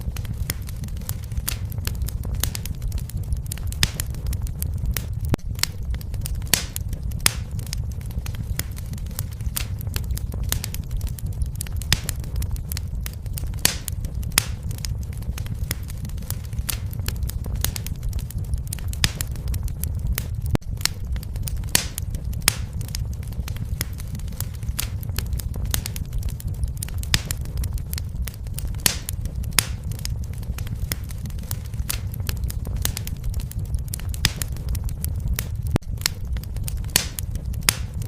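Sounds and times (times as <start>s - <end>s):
fire crackling and popping: 0.0s - 38.0s
low rumble of burning: 0.0s - 38.0s.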